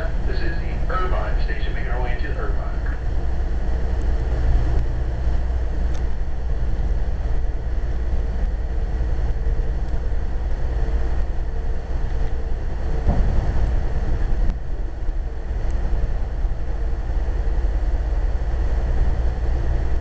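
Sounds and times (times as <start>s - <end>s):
faint hum: 0.0s - 20.0s
train wheels rumbling on rails: 0.0s - 20.0s.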